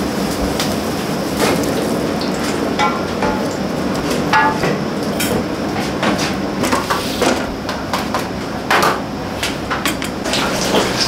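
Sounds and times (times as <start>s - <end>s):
kitchen background hum: 0.0s - 11.0s.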